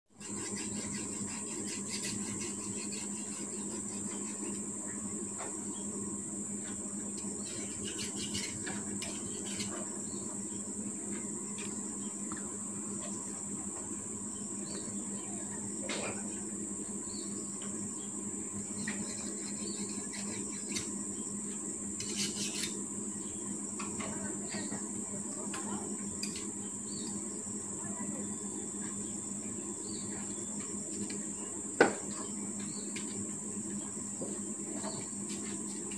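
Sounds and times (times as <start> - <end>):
insects chorus: 0.2 - 35.9.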